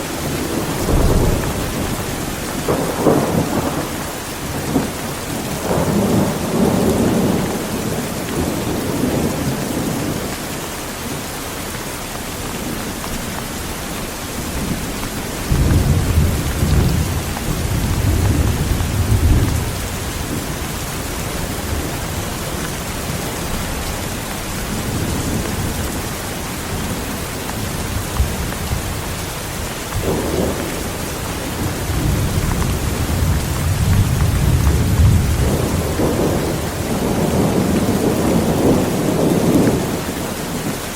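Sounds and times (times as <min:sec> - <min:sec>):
heavy rain: 0:00.0 - 0:40.9
rolling thunder: 0:00.2 - 0:10.3, 0:12.6 - 0:40.6.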